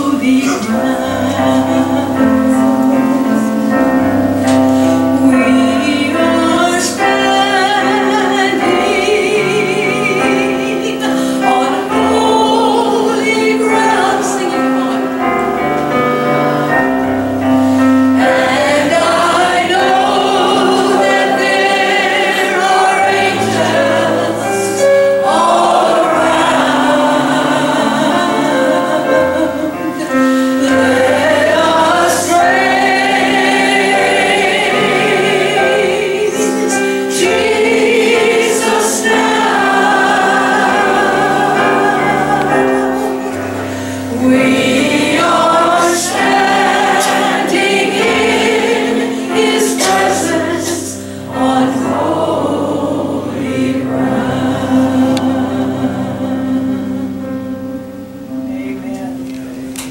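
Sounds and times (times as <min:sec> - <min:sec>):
church choir singing: 0:00.0 - 0:59.9
instrumental accompaniment: 0:00.0 - 0:59.9.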